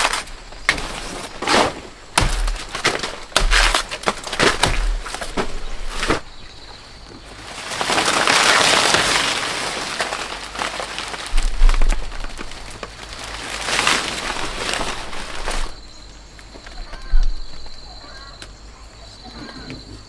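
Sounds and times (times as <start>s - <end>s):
stalks snapping and cracking: 0.0s - 6.3s, 7.1s - 18.6s
leaves and stalks rustling: 0.0s - 20.0s.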